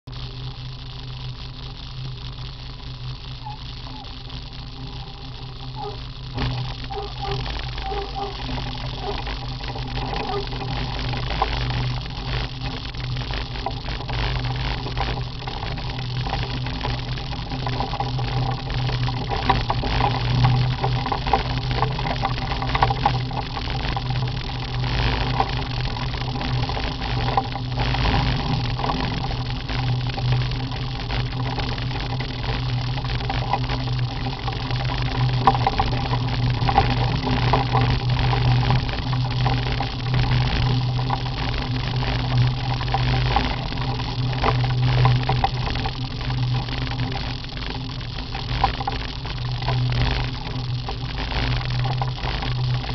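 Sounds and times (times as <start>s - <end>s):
motorcycle engine hum: 0.0s - 52.9s.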